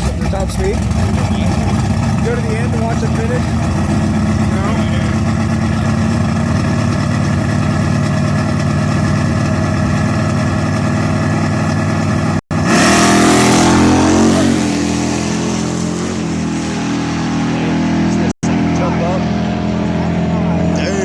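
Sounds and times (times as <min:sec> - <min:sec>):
car engine revving hard: 0:00.0 - 0:08.7, 0:12.0 - 0:21.0
car engine idling: 0:00.0 - 0:12.7, 0:13.8 - 0:21.0.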